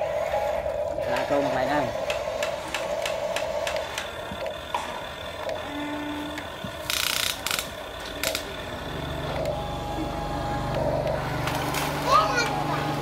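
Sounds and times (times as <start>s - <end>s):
toy motors whining: 0.0s - 13.0s
toy truck motor hum: 0.0s - 13.0s.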